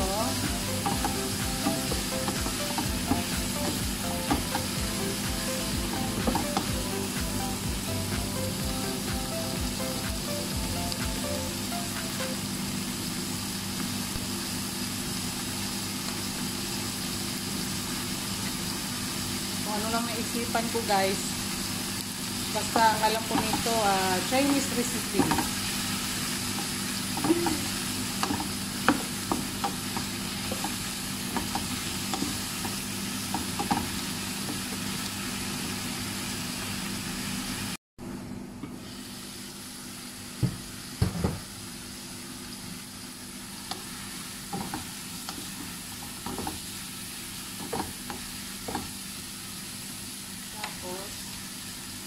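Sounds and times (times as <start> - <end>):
food sizzling in a wok: 0.0 - 37.8, 38.7 - 52.0.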